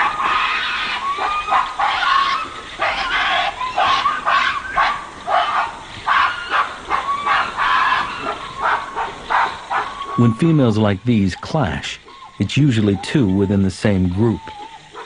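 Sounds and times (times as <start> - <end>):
gorillas screaming: 0.0 - 15.0.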